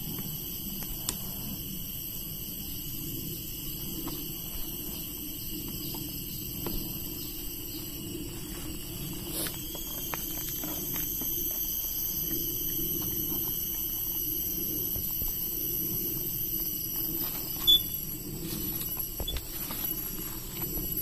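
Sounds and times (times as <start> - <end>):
steady high-pitched tone: 0.0 - 21.0.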